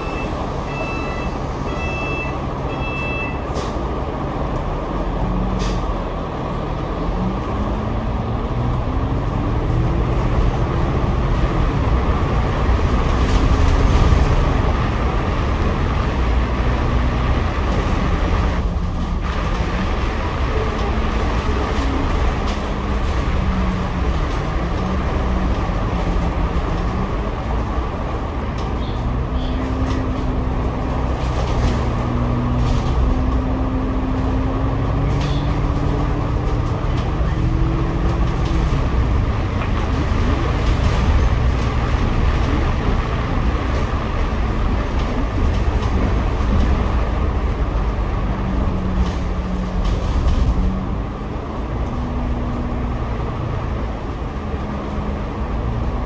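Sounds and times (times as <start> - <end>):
bus engine rumble with whine: 0.0 - 56.0.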